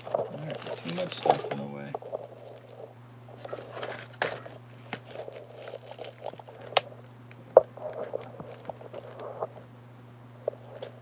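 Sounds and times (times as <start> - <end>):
soft handling clicks and rustles: 0.0 - 9.7, 10.4 - 11.0
steady low hum: 0.0 - 11.0.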